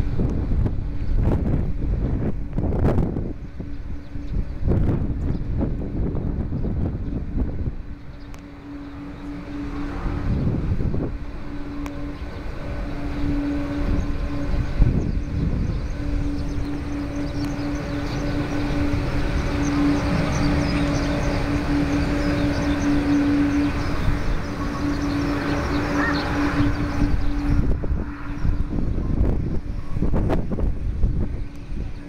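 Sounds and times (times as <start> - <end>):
jet engines droning at low power: 0.0 - 32.0.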